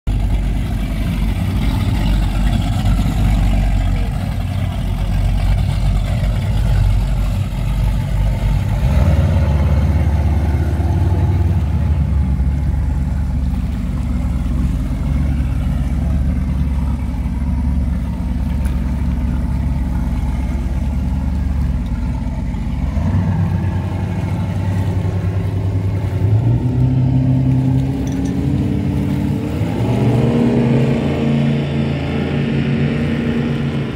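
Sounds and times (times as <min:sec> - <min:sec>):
speedboat engine running: 0:00.1 - 0:33.9.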